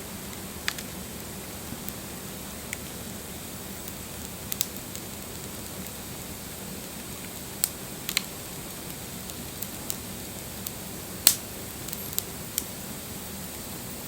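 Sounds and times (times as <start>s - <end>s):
campfire crackling and popping: 0.0s - 13.7s.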